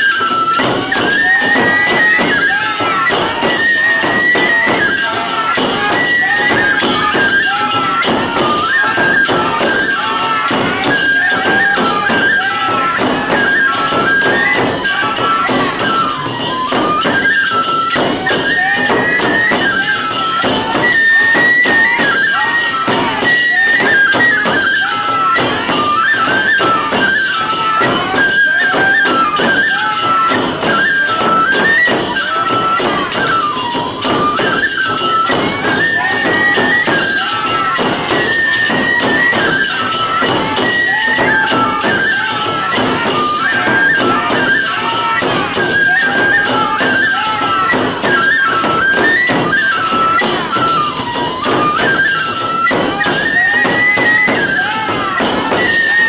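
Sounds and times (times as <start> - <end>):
bamboo flutes playing melody: 0.0 - 56.0
hand cymbals clashing: 0.0 - 56.0
large drum beats: 0.0 - 56.0.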